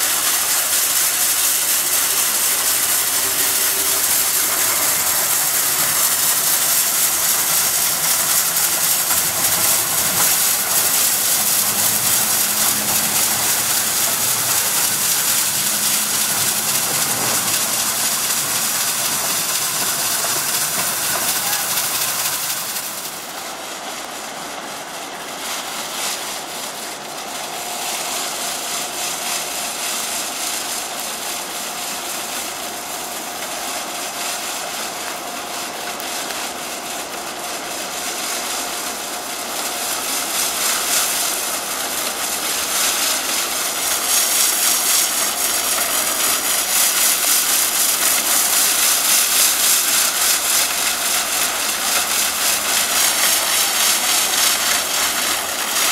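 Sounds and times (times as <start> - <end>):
rotating broom whirring hiss: 0.0 - 55.9.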